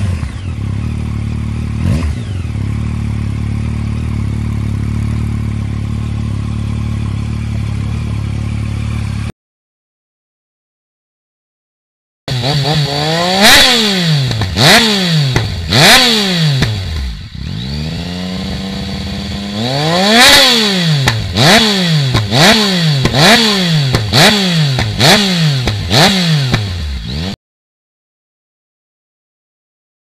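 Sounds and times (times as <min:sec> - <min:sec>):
motorcycle engine revving: 0:00.0 - 0:09.3, 0:12.3 - 0:27.4.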